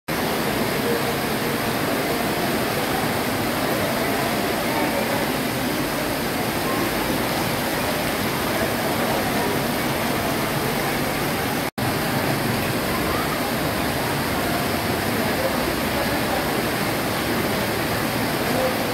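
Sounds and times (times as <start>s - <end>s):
heavy rain pouring: 0.1s - 18.9s.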